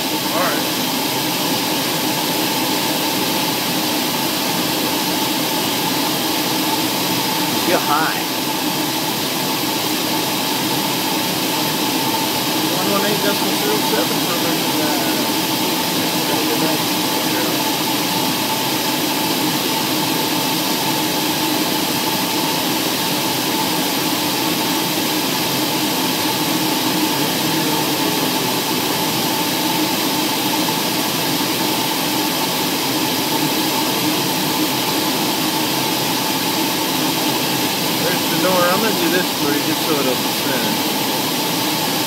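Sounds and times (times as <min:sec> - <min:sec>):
constant hum: 0:00.0 - 0:22.1, 0:22.8 - 0:42.0
aircraft cabin engine drone: 0:00.0 - 0:42.0.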